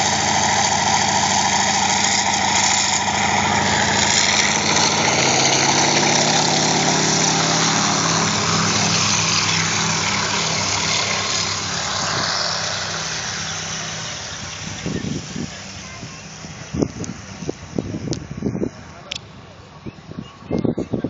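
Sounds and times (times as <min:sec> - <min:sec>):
aircraft piston engine running: 0:00.0 - 0:21.0.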